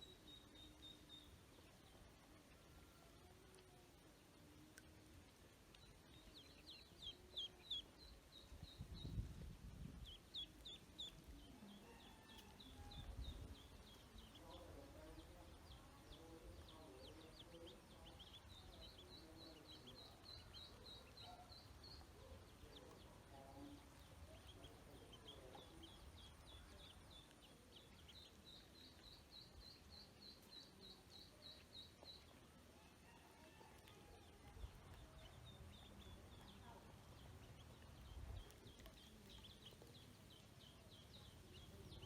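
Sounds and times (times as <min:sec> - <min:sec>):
ducklings peeping: 0:00.0 - 0:02.8, 0:03.5 - 0:32.5, 0:33.2 - 0:42.0.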